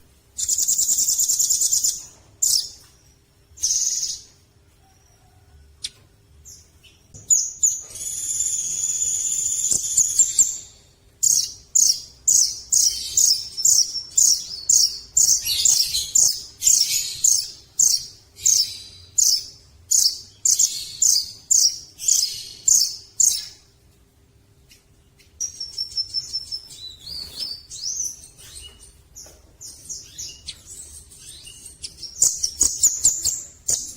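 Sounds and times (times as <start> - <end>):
bird singing trills: 3.6 - 23.6, 24.6 - 33.9.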